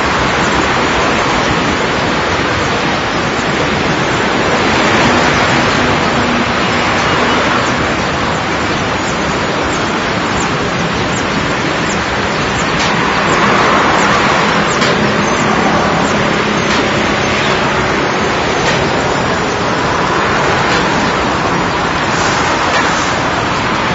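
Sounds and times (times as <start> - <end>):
dense rushing noise: 0.0 - 23.9.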